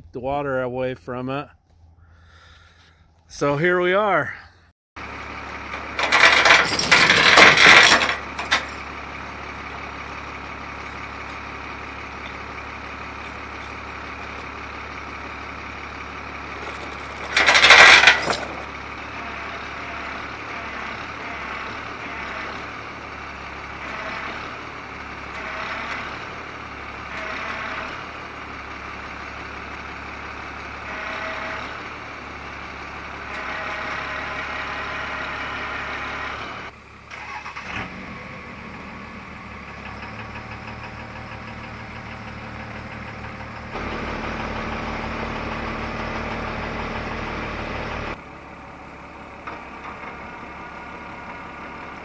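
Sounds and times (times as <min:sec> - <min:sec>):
truck engine running: 0:00.0 - 0:52.0
crane whining: 0:04.6 - 0:52.0.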